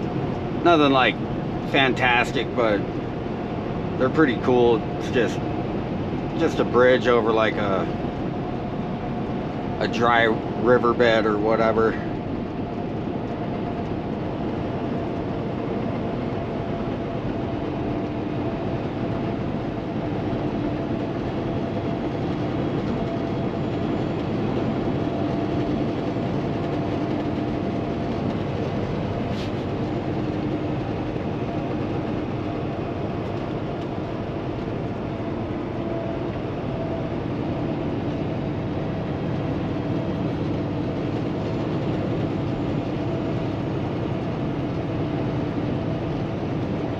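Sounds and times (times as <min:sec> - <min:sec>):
diesel truck engine droning: 0:00.0 - 0:46.9
road and tyre noise: 0:00.0 - 0:46.9.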